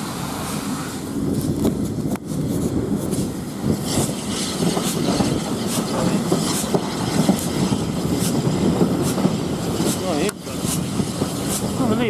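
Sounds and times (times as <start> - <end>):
train carriages rumbling: 0.1 - 12.0.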